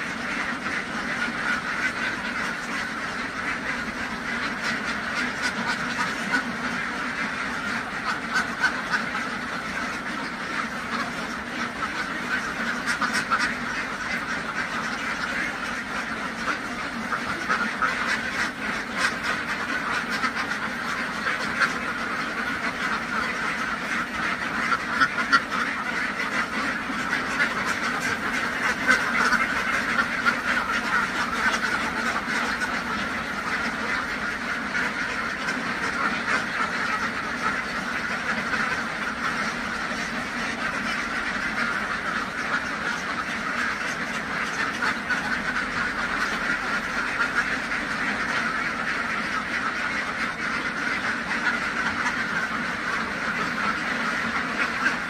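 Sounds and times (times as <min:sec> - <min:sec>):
ducks quacking: 0:00.0 - 0:55.0.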